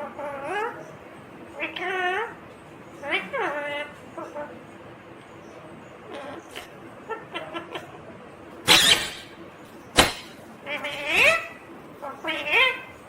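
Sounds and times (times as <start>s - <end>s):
parrot chattering and squawking: 0.0s - 4.6s, 6.0s - 13.0s.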